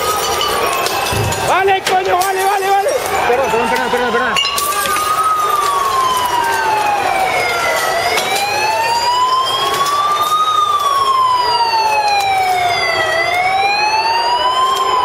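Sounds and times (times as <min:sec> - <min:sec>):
police siren wailing: 0:00.0 - 0:15.0.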